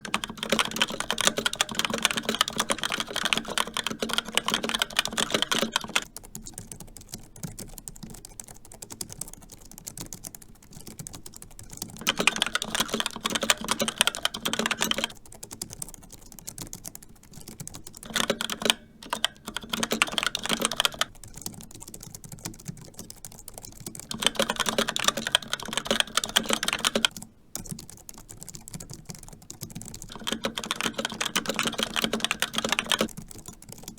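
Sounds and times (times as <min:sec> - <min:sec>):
fast typing on keyboard: 0:00.0 - 0:33.9.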